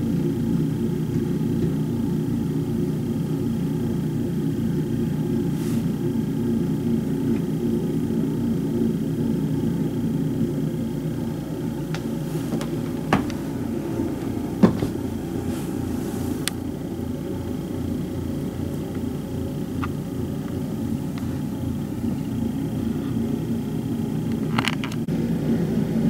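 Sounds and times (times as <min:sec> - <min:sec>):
muffled snow blower engine rumble: 0:00.0 - 0:26.0.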